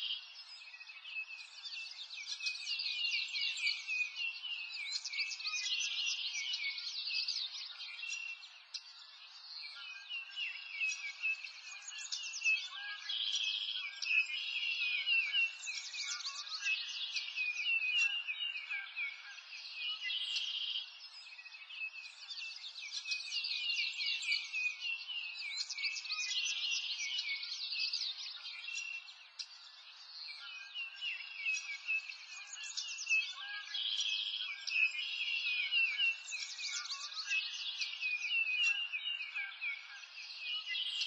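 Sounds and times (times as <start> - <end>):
birds chirping and trilling: 0.0 - 41.0.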